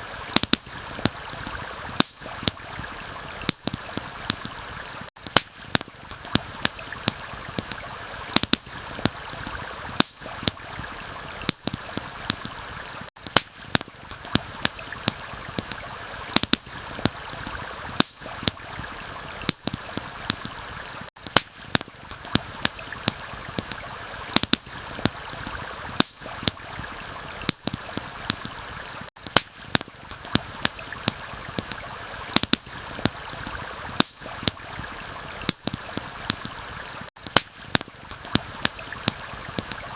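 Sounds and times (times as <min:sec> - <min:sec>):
campfire crackling and popping: 0:00.0 - 0:39.9
flowing stream: 0:00.0 - 0:39.9.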